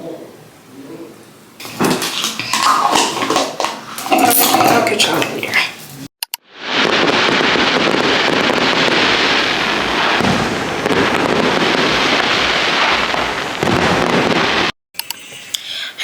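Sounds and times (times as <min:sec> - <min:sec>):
fireworks bangs and crackling: 0:01.6 - 0:14.8.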